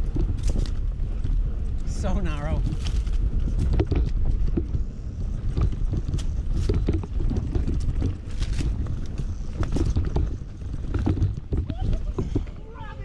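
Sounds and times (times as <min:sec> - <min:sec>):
bike ticks and rattles: 0:00.0 - 0:13.0
tyres on dirt: 0:00.0 - 0:13.0
wind buffeting microphone: 0:00.0 - 0:13.0.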